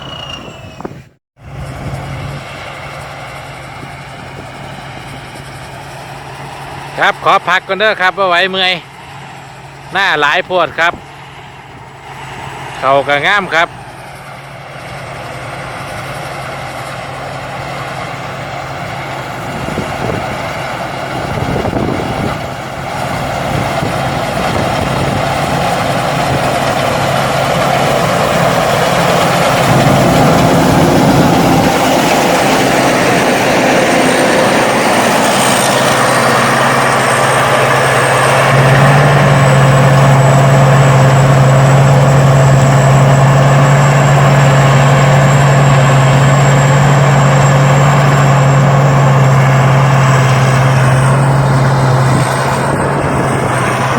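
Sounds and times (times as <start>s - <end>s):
combine harvester engine running: 0.0s - 53.9s.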